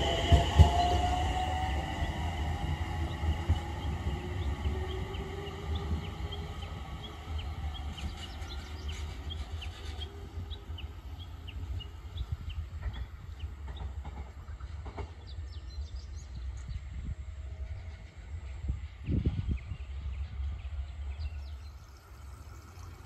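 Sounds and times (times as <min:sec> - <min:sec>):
train car rumble: 0:00.0 - 0:23.0.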